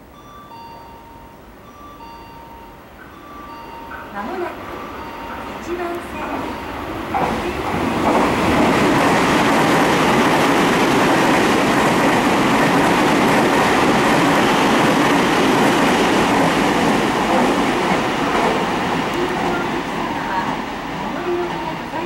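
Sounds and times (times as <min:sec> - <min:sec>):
train rail rumble: 0:01.4 - 0:22.0
train wheel clatter: 0:03.8 - 0:22.0.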